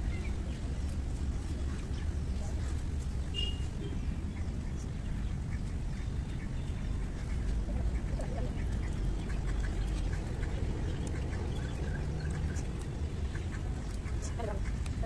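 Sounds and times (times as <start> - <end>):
birds calling: 1.6 - 15.0.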